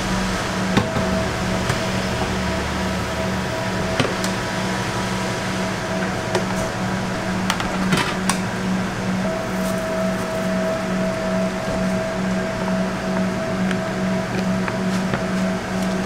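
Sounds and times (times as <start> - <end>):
kitchen machine hum: 0.0 - 16.0.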